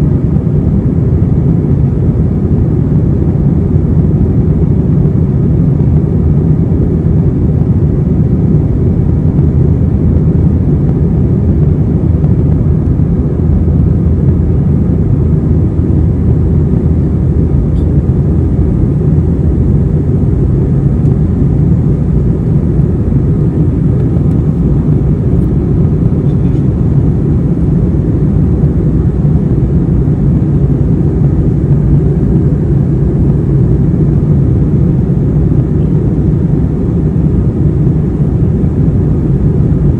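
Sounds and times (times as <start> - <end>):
jet engines and airflow rumble: 0.0 - 39.9.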